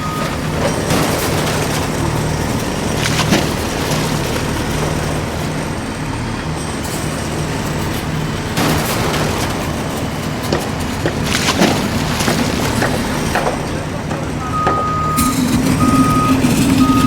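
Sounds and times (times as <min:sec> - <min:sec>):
scraping clattering rush: 0:00.0 - 0:05.9, 0:06.6 - 0:17.0
vehicle engine hum: 0:00.0 - 0:17.0.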